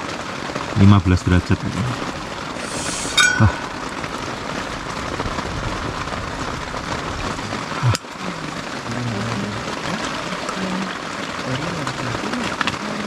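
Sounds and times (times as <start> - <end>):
rain on tent: 0.0 - 13.0.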